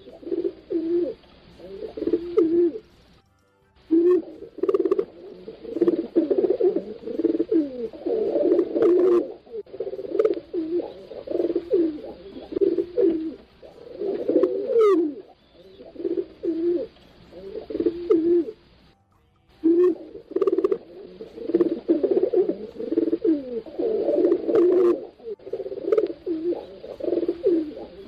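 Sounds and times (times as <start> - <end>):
higher rising bird call: 0.0 - 2.9, 3.9 - 18.6, 19.6 - 28.0
pigeons cooing: 0.0 - 3.1, 3.9 - 18.8, 19.6 - 28.0.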